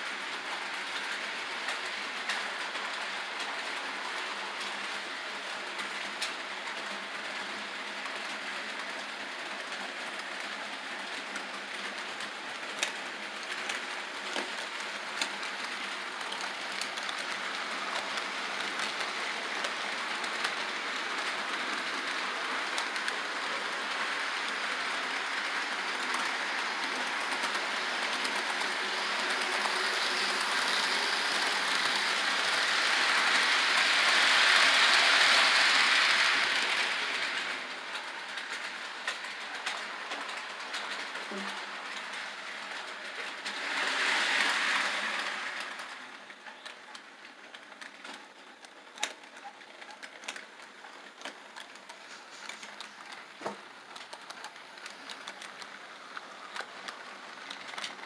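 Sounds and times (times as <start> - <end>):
clicks of model train: 0.0 - 58.0
model train rolling whir: 0.0 - 58.0.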